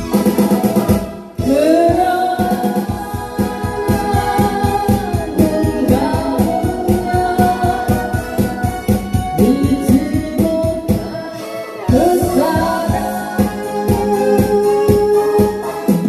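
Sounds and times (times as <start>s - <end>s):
quick drum beat: 0.0s - 11.2s, 11.9s - 16.0s
electronic keyboard melody: 0.0s - 16.0s
person singing pop song: 0.0s - 16.0s.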